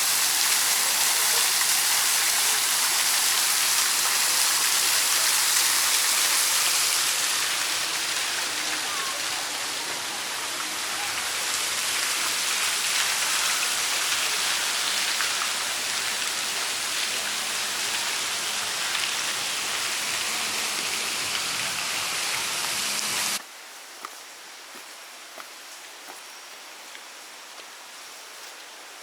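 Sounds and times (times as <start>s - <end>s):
falling water hiss: 0.0s - 23.4s.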